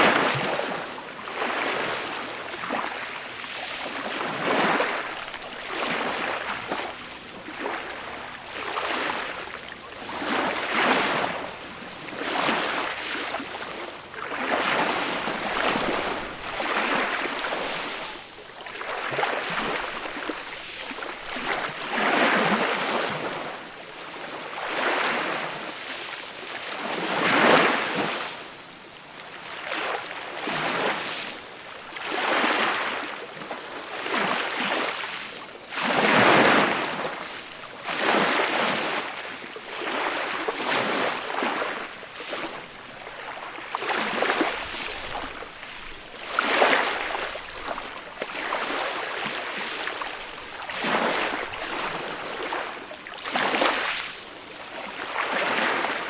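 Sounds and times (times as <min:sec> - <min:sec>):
sea waves washing up shore: 0:00.0 - 0:56.0.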